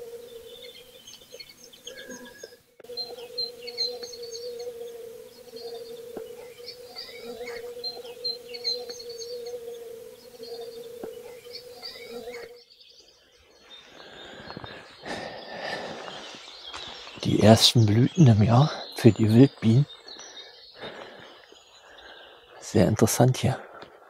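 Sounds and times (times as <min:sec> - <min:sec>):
bees humming: 0:00.0 - 0:22.9
small birds chirping: 0:00.0 - 0:24.0.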